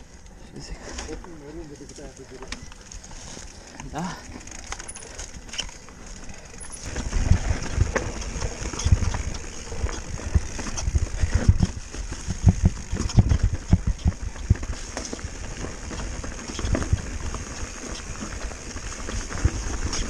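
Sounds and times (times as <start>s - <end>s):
bike knocking and rattling on rocks: 1.0s - 20.0s.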